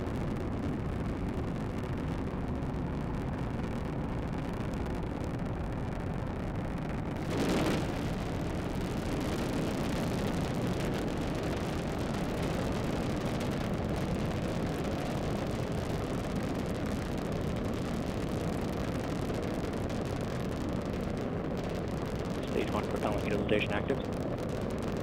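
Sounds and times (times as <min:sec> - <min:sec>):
deep rocket rumble: 0:00.0 - 0:25.0.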